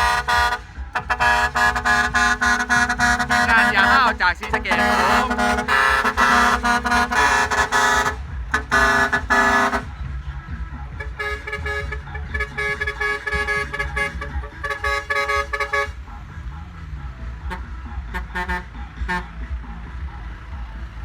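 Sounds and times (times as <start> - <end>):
truck air horn blasts: 0.0 - 16.1, 17.4 - 19.7
pulsing horn: 0.0 - 16.3, 17.2 - 19.7
low engine rumble: 0.0 - 21.0.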